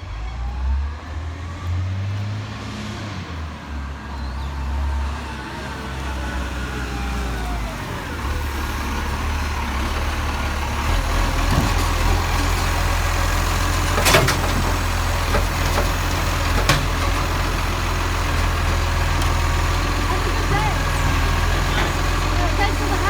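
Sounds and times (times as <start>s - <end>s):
garbage truck engine rumbling: 0.0s - 23.0s.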